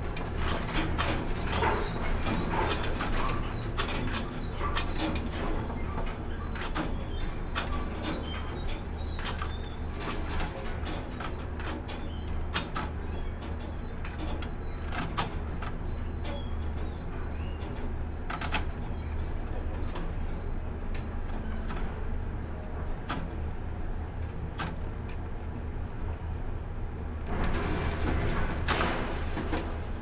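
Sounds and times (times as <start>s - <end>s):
crane low hum: 0.0s - 30.0s.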